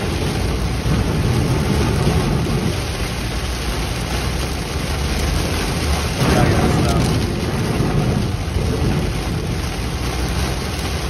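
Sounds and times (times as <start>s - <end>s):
heavy rain on a moving car: 0.0s - 11.0s.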